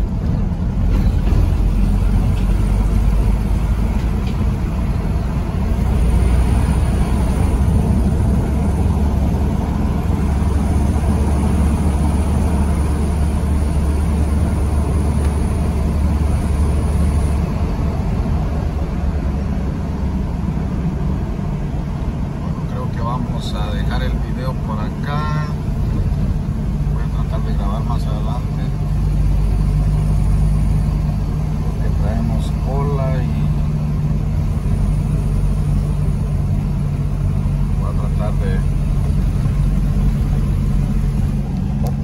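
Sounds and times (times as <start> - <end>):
vehicle engine and road rumble: 0.0 - 42.0.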